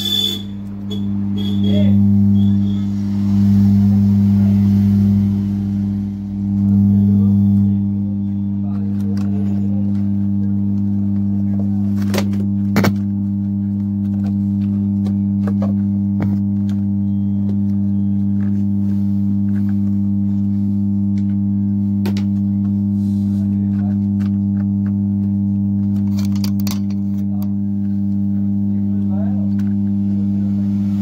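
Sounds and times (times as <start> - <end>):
amplifier mains hum: 0.0 - 31.0.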